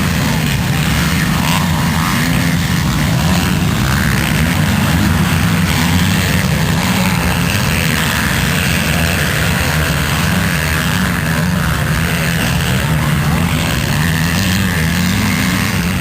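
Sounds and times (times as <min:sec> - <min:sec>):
motocross motorcycle engines droning: 0:00.0 - 0:16.0.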